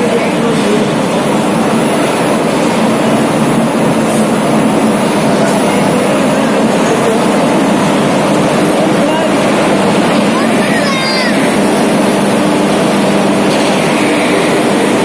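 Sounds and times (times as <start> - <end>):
electric locomotive hum: 0.0 - 15.0.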